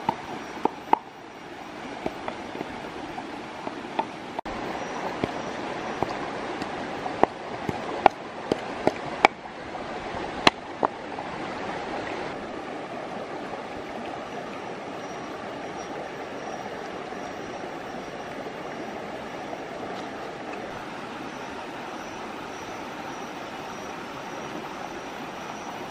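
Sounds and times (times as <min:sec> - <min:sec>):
stream running over rocks: 0:00.0 - 0:25.9.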